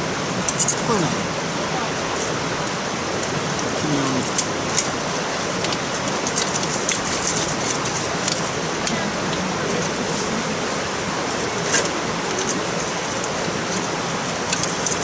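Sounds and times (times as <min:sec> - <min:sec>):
rain falling: 0:00.0 - 0:15.0
raindrops ticking on a surface: 0:00.0 - 0:15.0.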